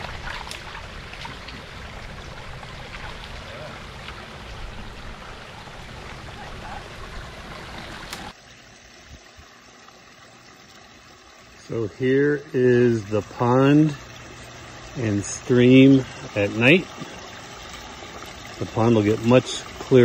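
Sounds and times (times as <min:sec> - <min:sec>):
water running over rocks: 0:00.0 - 0:20.0.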